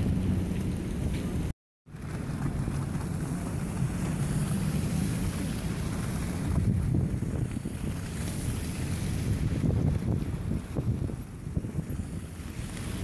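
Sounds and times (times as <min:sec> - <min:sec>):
traffic rumble: 0:00.0 - 0:13.0
wind buffeting microphone: 0:00.0 - 0:13.0.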